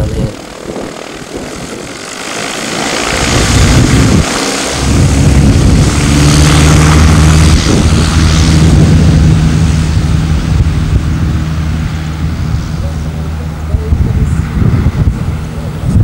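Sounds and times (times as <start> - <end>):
propeller aeroplane engine drone: 0.0 - 16.0.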